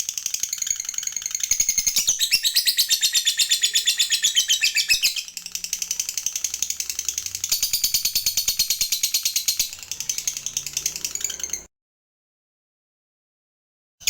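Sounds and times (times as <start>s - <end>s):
lovebird chattering trill: 0.0s - 11.6s.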